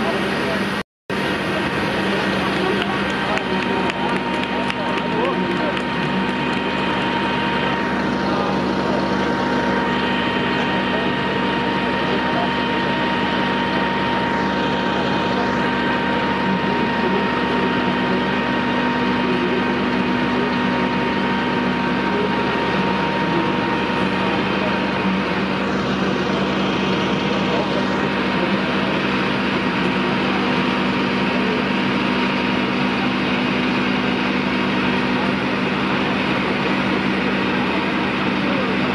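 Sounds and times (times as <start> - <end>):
thin whine: 0.0 - 38.9
truck engine running steadily: 0.0 - 38.9.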